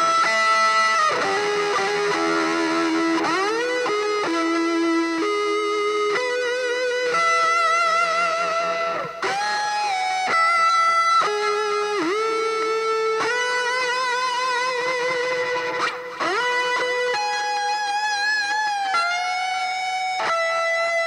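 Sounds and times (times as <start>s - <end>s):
electric guitar lead with vibrato: 0.0s - 21.0s.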